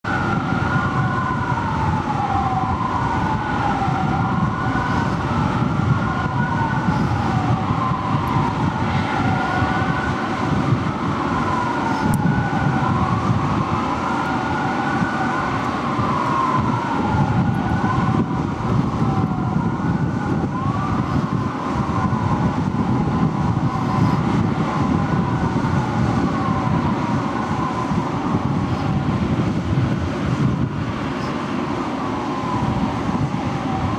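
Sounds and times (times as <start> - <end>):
low rumble of engines and traffic: 0.0 - 33.9
sirens wailing: 0.0 - 33.9.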